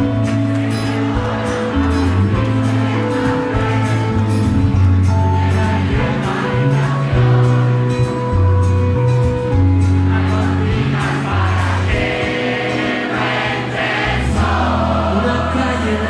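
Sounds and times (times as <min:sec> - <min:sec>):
live rock band playing: 0:00.0 - 0:15.2
sustained bass notes: 0:00.0 - 0:16.0
steady drum beat: 0:00.9 - 0:08.8, 0:09.5 - 0:14.6.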